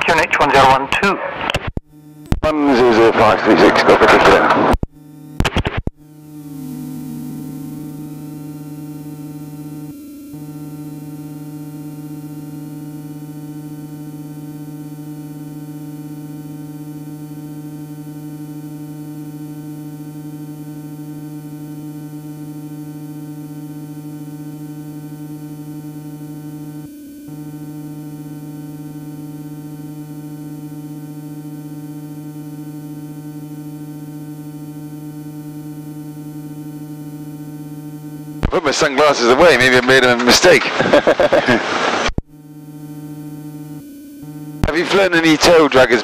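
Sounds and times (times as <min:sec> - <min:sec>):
propeller plane engine hum: 0:06.0 - 0:46.0.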